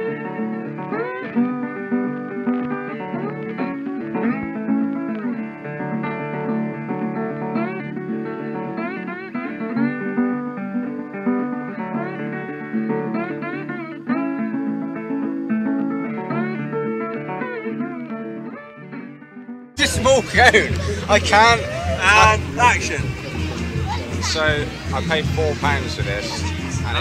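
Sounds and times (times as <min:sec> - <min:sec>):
guitar with sliding notes: 0:00.0 - 0:27.0.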